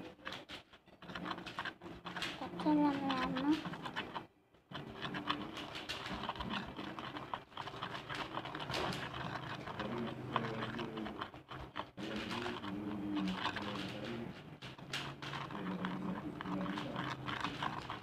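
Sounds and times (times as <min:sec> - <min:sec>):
slime stirred in plastic bowl: 0:00.0 - 0:18.0.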